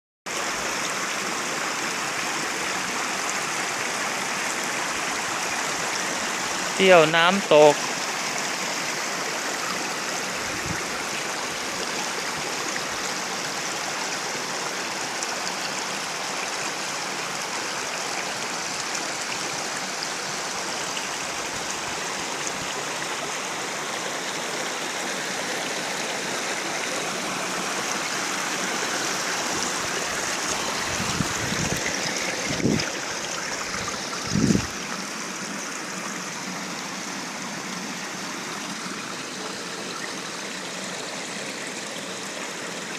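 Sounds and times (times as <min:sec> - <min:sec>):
waterfall rushing over rocks: 0:00.3 - 0:42.9.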